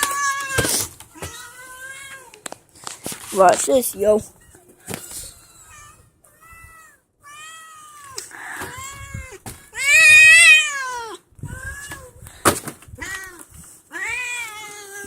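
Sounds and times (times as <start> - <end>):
cats yowling: 0.0 - 2.4, 4.4 - 12.2, 13.0 - 15.0.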